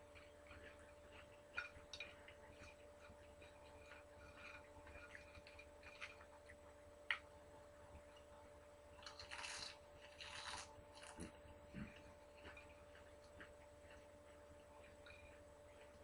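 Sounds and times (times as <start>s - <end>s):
person eating: 0.0s - 7.3s, 8.9s - 16.0s.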